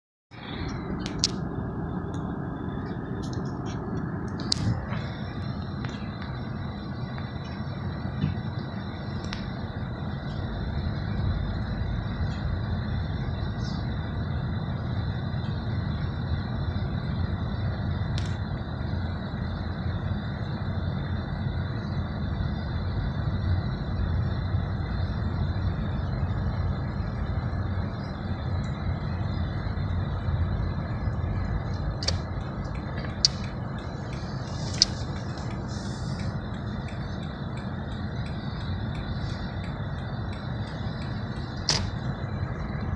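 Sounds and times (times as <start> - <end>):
car interior road rumble: 0.4 - 42.9.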